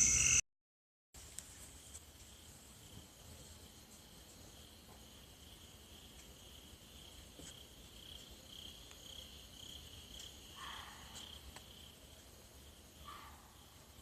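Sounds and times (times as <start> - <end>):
crickets chirping: 0.0 - 0.4, 1.5 - 14.0.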